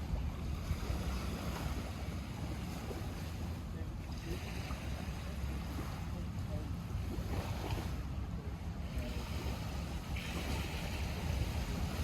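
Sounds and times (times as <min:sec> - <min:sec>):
wind on microphone: 0:00.0 - 0:06.2, 0:06.9 - 0:12.0
lake waves lapping: 0:00.0 - 0:12.0.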